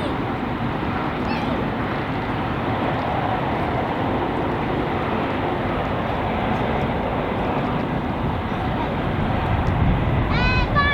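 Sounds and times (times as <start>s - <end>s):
train passing: 0.0s - 10.9s.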